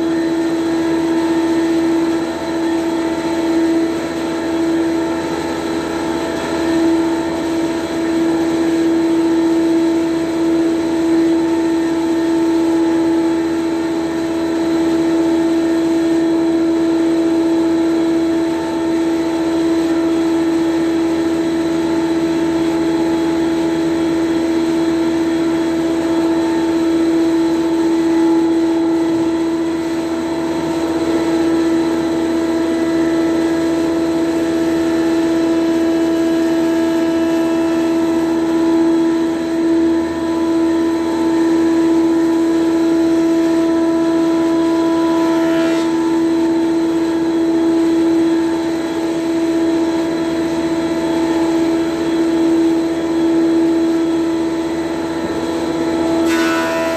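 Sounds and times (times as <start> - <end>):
thickness planer humming: 0.0 - 56.9.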